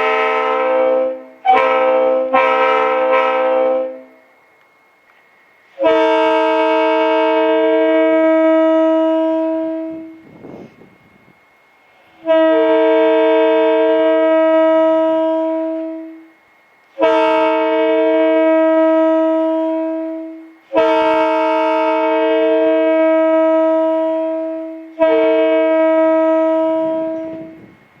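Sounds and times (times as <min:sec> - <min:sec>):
railroad air horn chord: 0:00.0 - 0:04.6, 0:05.6 - 0:11.3, 0:11.9 - 0:28.0.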